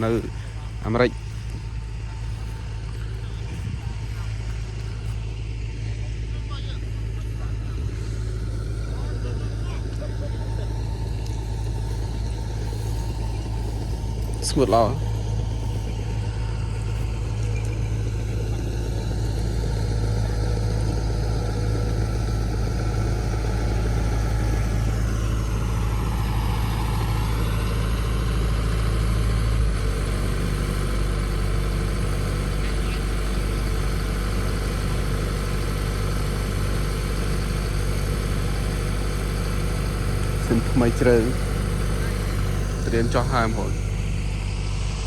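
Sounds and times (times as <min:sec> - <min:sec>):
harvester engine humming: 0:00.0 - 0:45.0.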